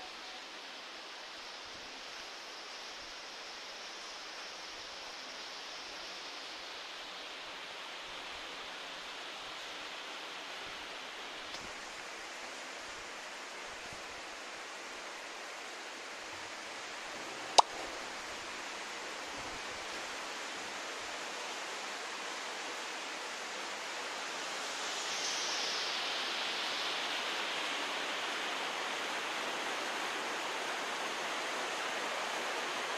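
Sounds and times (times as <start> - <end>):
steady background hiss: 0.0 - 32.9.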